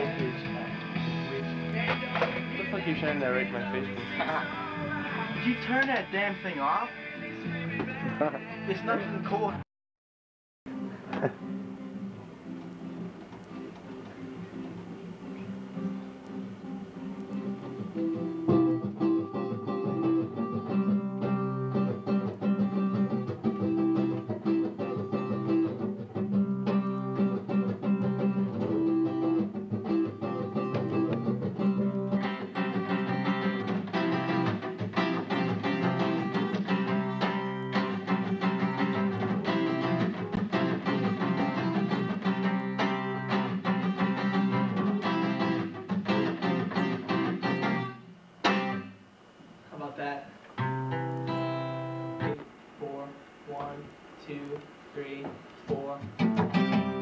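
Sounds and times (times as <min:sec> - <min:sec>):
acoustic guitar chords: 0:00.0 - 0:09.6, 0:10.7 - 0:57.0.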